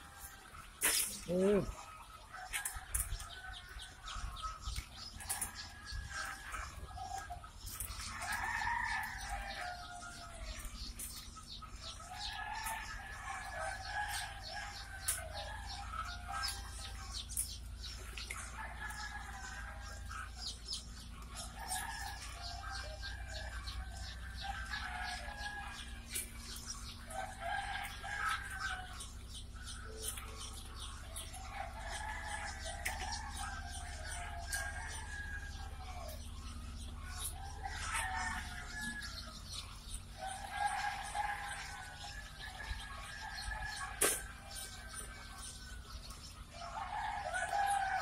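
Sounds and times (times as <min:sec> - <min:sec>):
chicks peeping: 0:00.0 - 0:48.0.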